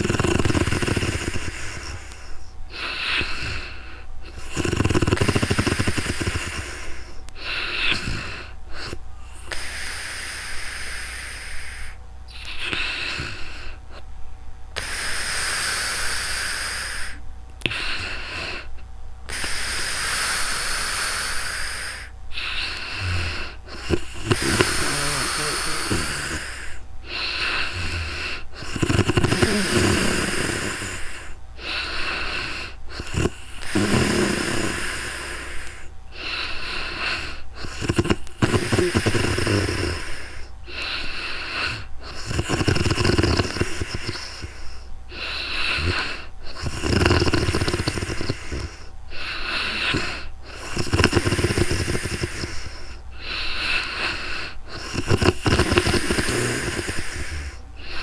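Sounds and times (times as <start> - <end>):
woman snoring: 0.0 - 14.1, 14.8 - 58.0.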